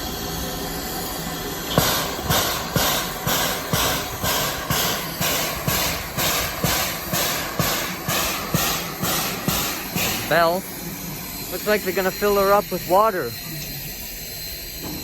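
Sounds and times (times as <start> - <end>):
steam locomotive hissing: 0.0 - 15.0
steam locomotive puffing: 0.0 - 15.0.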